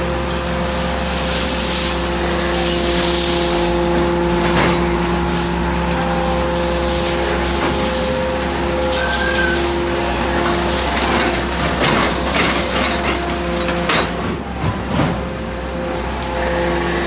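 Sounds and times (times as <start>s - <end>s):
hydraulic baler drone and hum: 0.0s - 17.0s.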